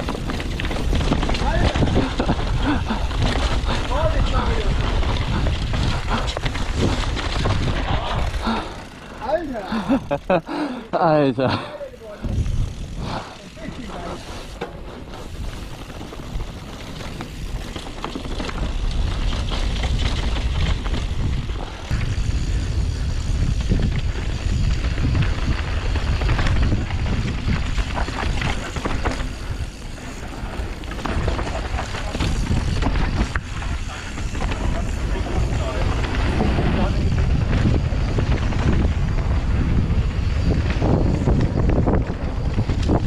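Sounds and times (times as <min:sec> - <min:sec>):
bike knocks and rattles: 0:00.0 - 0:09.0, 0:12.2 - 0:43.0
wind buffeting microphone: 0:00.0 - 0:10.3, 0:12.2 - 0:43.0
bike tyres rolling over dirt: 0:00.0 - 0:43.0.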